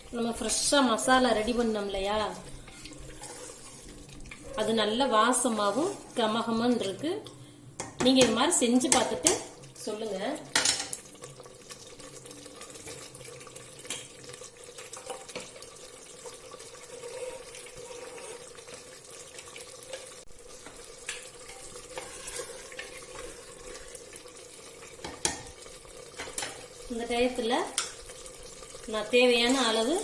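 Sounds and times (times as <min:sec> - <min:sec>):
low sizzle in a pot: 0:00.0 - 0:30.0.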